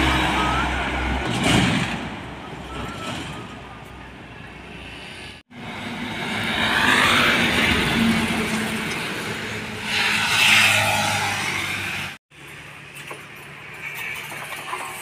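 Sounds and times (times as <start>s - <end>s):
heavy truck passing: 0.0s - 12.6s
road noise: 0.0s - 15.0s.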